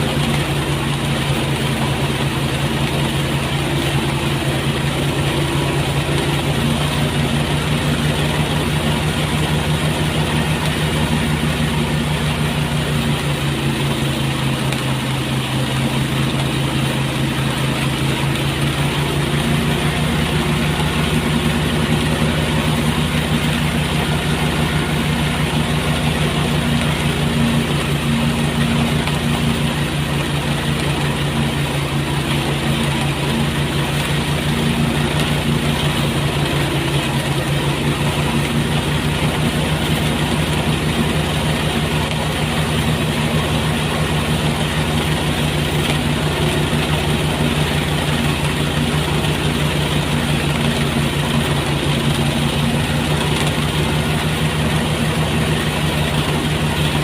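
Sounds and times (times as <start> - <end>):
threshing machine engine drone: 0.0 - 57.0.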